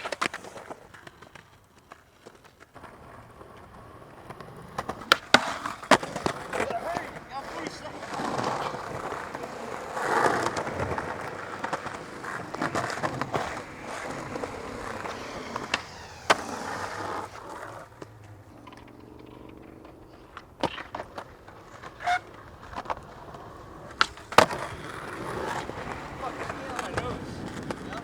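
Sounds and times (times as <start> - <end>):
skateboard clacks: 0.0 - 28.0
skateboard rolling on pavement: 0.0 - 28.0.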